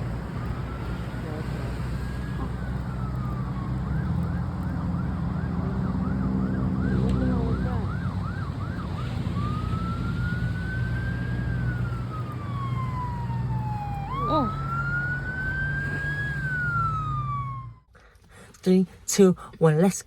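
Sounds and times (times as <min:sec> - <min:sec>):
emergency siren: 0:00.0 - 0:17.9.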